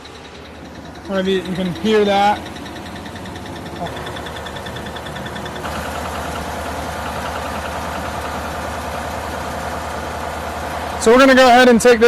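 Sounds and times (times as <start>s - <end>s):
engine idling: 0.0s - 12.0s
rapid engine ticking: 0.0s - 12.0s.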